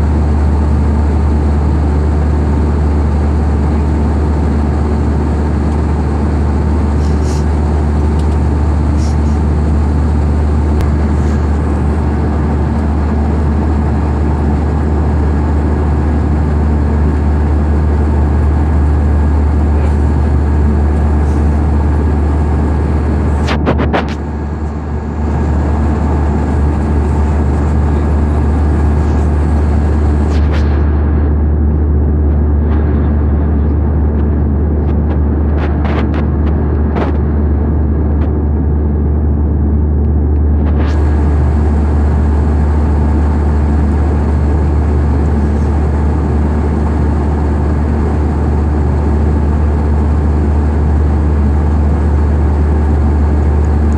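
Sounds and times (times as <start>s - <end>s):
engine drone with rushing noise: 0.0s - 53.9s.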